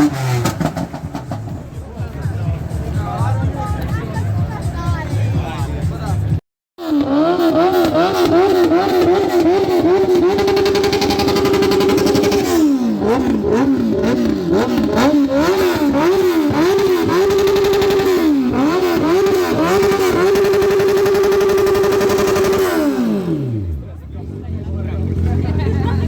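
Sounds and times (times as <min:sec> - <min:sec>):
vehicle engine revving hard: 0:00.0 - 0:02.4, 0:06.8 - 0:26.0.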